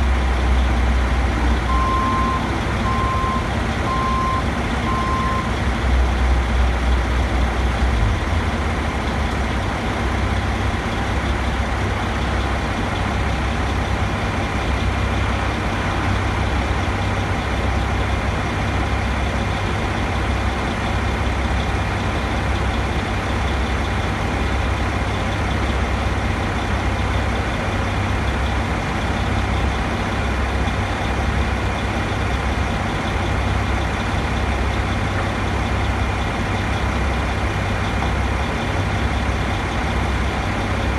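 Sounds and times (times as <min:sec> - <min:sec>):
crane engine idling: 0:00.0 - 0:40.9.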